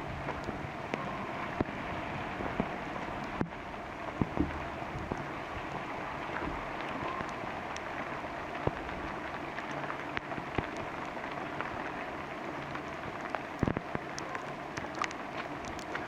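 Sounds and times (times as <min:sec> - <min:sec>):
steady rain in forest: 0:00.0 - 0:16.0.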